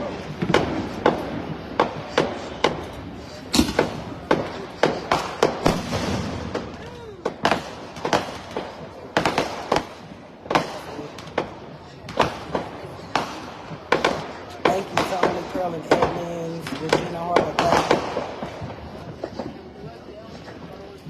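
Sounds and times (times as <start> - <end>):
fireworks bangs and pops: 0.0 - 21.0.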